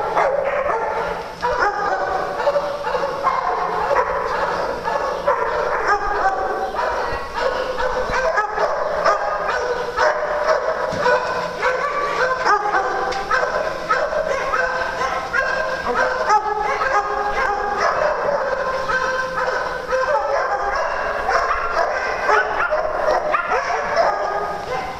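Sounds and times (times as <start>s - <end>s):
dogs barking and yipping: 0.0s - 24.9s.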